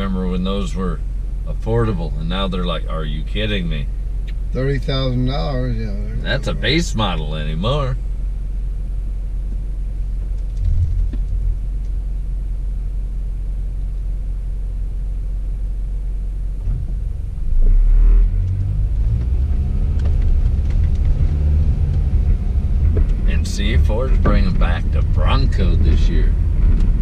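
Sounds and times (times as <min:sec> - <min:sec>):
car cabin road and engine rumble: 0:00.0 - 0:27.0.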